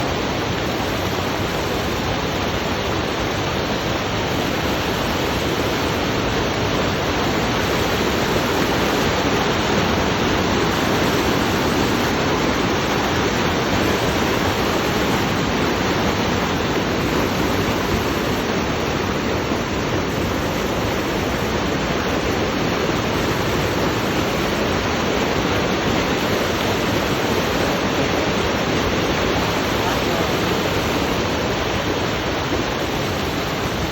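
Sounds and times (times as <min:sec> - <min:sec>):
fast-flowing water rushing: 0:00.0 - 0:33.9.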